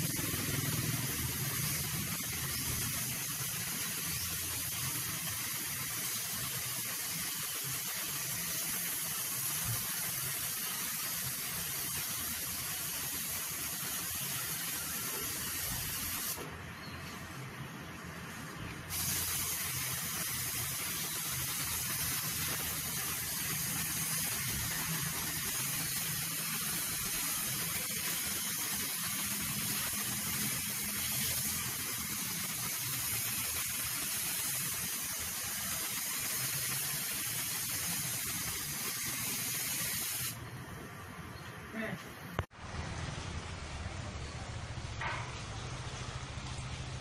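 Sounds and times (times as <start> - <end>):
spray gun hissing: 0.0 - 16.6, 17.2 - 40.4.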